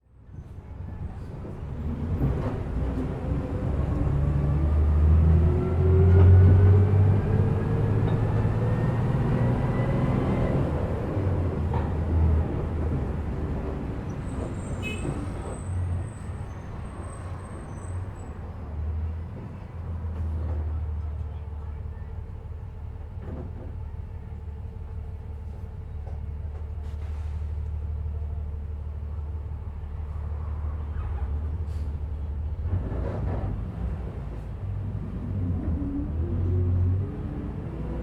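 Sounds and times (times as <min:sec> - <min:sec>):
bus engine rumble and whine: 0:00.0 - 0:38.0.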